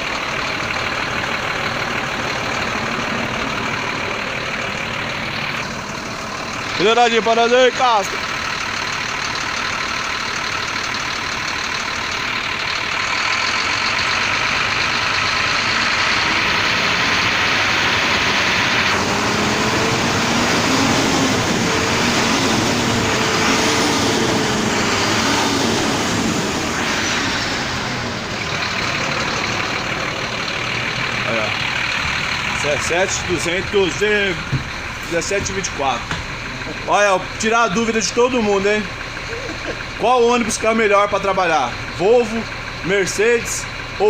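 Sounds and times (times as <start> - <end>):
bus diesel engine running: 0.0 - 44.0.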